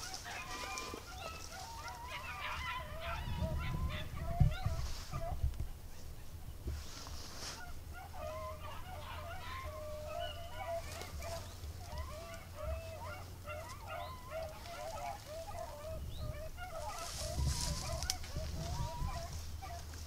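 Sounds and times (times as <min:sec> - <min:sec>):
hounds baying: 0:00.0 - 0:06.4, 0:07.4 - 0:20.0.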